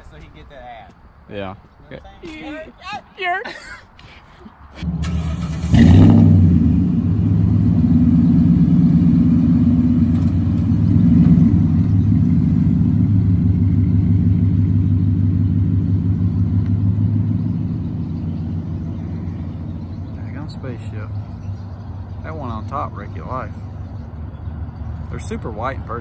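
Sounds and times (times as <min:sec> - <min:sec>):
truck engine idling: 0:04.8 - 0:26.0.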